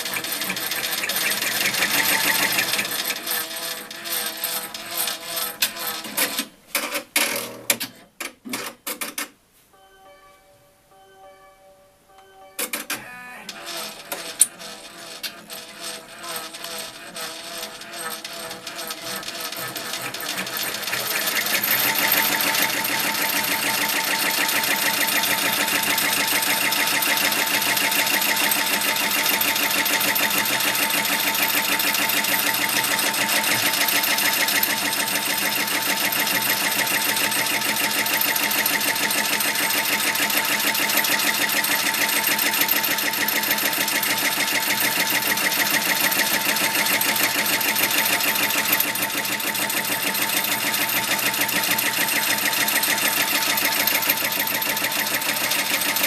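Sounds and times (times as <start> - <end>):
embroidery machine stitching: 0.0 - 9.3, 12.6 - 56.0.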